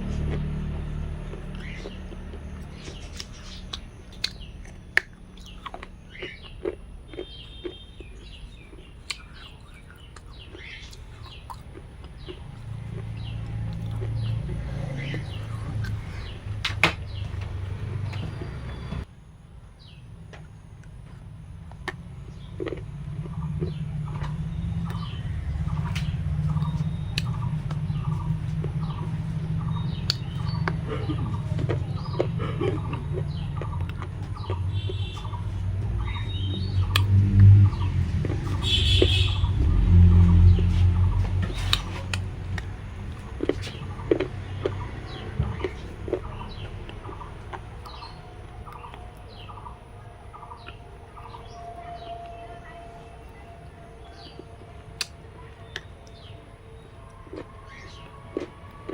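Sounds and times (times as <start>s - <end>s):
small birds chirping: 0.0s - 19.1s, 19.8s - 58.9s
steady low hum: 0.0s - 58.9s
steady low rumble: 8.0s - 19.1s, 20.8s - 58.8s.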